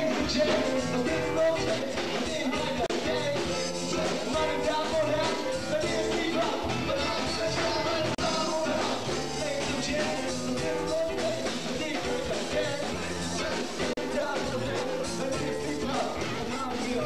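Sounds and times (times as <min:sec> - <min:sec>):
drum kit: 0:00.0 - 0:17.0
electric guitar: 0:00.0 - 0:17.0
person singing into a microphone: 0:00.0 - 0:17.0.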